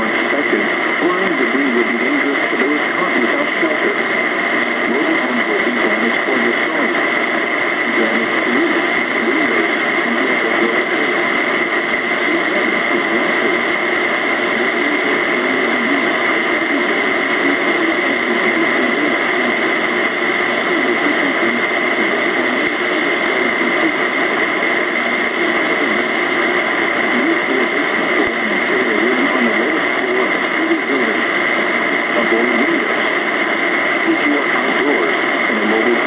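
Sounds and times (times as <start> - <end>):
constant whine: 0.0 - 36.0
faint voice under static: 0.0 - 36.0
radio static hiss: 0.0 - 36.0.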